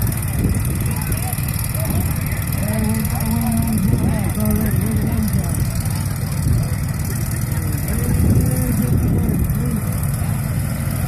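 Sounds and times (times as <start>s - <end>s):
riding mower engines running: 0.0s - 11.0s.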